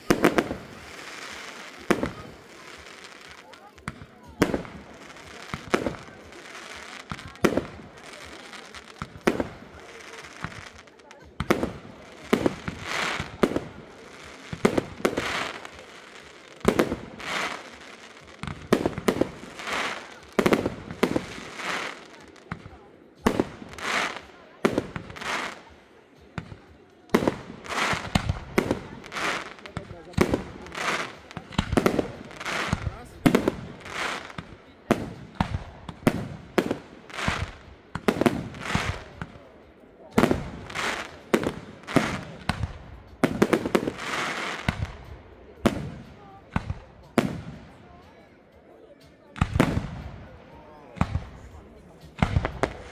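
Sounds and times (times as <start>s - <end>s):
fireworks bursting with bangs: 0.0s - 48.1s, 49.1s - 52.9s
crackling hiss of fireworks: 0.0s - 52.9s.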